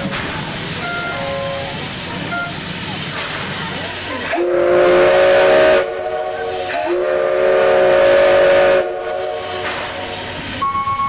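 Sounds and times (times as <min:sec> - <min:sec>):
steam locomotive whistle: 0:00.0 - 0:02.6, 0:04.2 - 0:11.0
steam hissing: 0:00.0 - 0:11.0.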